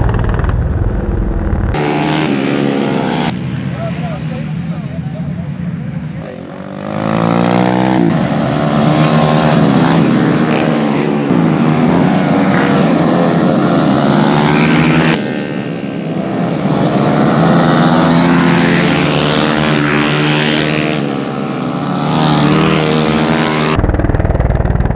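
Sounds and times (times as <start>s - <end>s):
racing motorcycles revving past: 1.6s - 23.8s.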